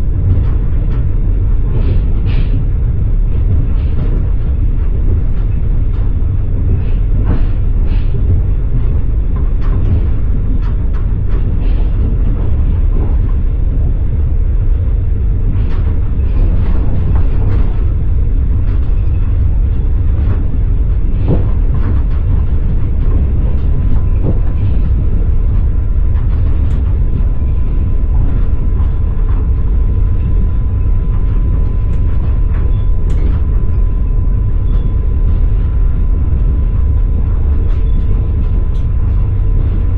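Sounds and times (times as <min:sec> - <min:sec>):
thin steady whine: 0:00.0 - 0:39.9
train rumbling: 0:00.0 - 0:39.9.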